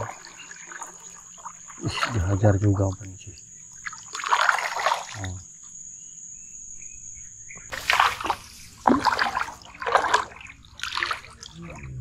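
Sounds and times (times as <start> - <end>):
water splashing: 0.0 - 5.4, 7.7 - 12.0.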